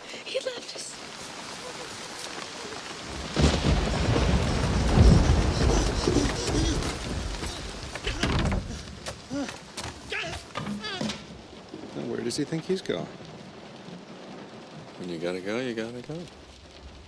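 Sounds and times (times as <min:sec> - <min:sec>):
heavy rain pouring: 0:00.0 - 0:17.0
thunder rumbling: 0:00.0 - 0:17.0.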